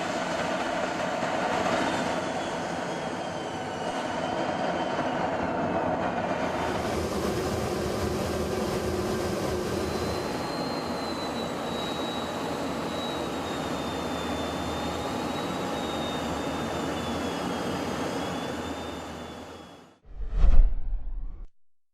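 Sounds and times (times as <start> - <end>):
jet engine running with whine: 0.0 - 20.0.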